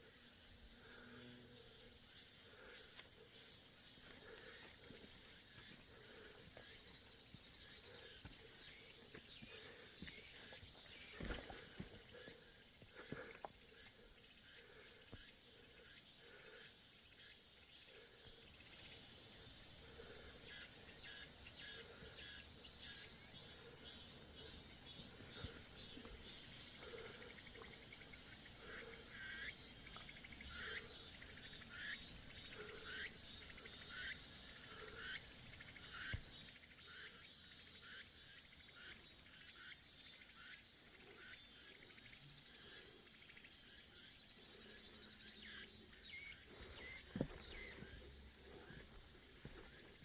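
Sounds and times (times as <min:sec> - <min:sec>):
insects buzzing: 0:00.0 - 0:50.0.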